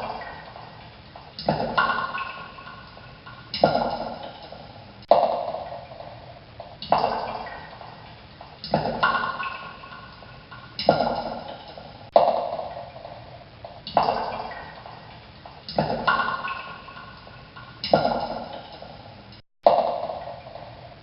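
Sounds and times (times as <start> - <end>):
water drops plinking: 0.0 - 19.1.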